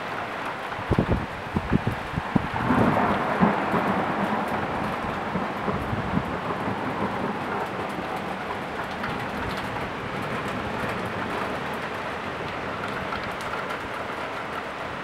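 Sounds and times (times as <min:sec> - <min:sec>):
heavy rain downpour: 0:00.0 - 0:15.0.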